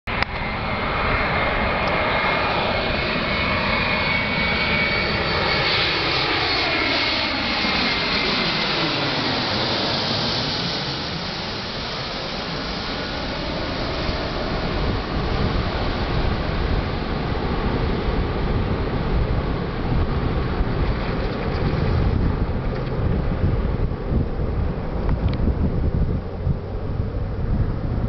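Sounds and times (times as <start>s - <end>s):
jet engines passing overhead: 0.1s - 28.0s.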